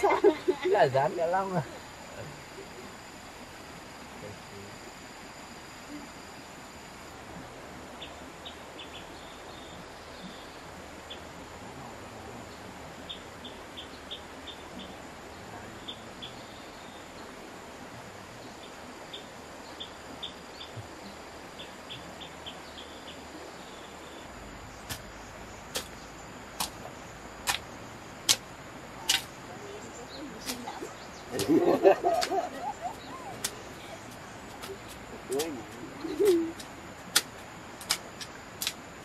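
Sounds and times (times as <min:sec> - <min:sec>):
forest ambience hiss: 0:00.0 - 0:39.0
high insect whine: 0:00.0 - 0:39.0.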